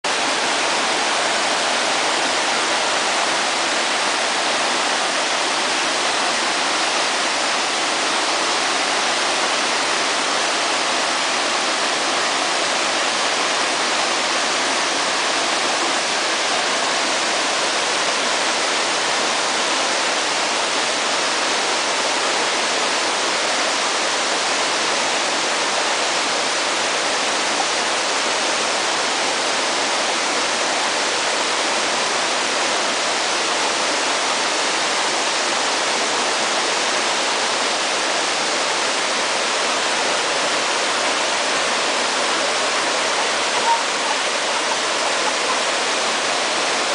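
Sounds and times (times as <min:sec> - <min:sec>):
waterfall rushing and splashing: 0:00.0 - 0:46.9.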